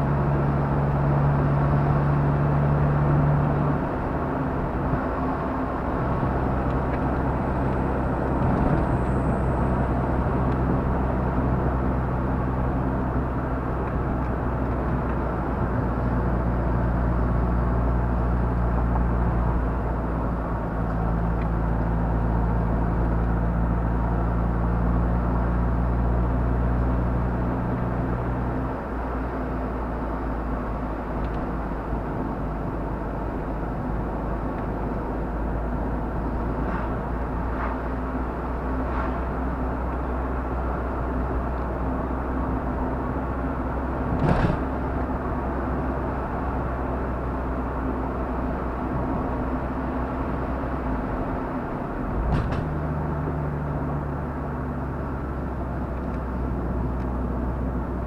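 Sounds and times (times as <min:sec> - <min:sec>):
car engine hum: 0:00.0 - 0:58.0
road noise: 0:00.0 - 0:58.0.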